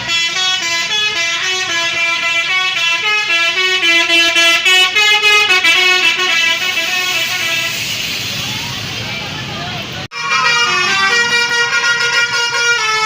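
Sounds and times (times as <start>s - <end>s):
bus musical air horn tune: 0.0s - 8.1s, 10.1s - 13.0s.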